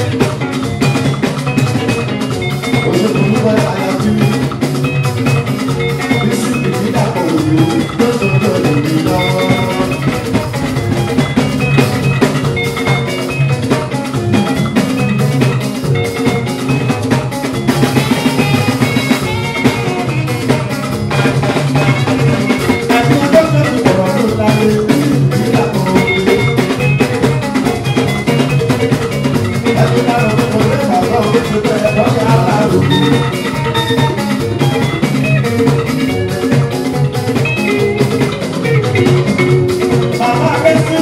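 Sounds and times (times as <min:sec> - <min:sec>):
band music: 0:00.0 - 0:41.0
bass: 0:00.0 - 0:41.0
drum kit beat: 0:00.0 - 0:41.0
electric guitars: 0:00.0 - 0:41.0.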